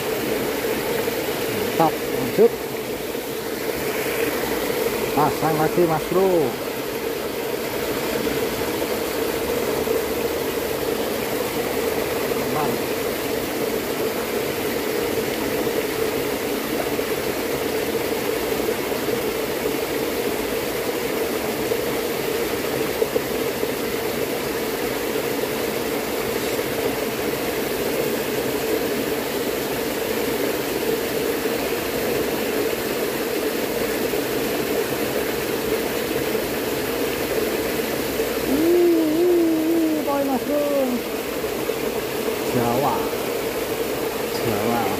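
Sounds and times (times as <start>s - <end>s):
stream water running: 0.0s - 44.9s.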